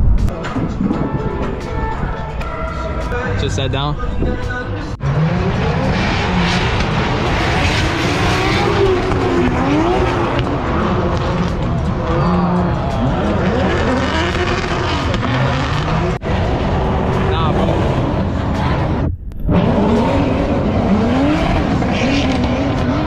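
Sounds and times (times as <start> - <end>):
car engines revving: 0.2 - 23.0.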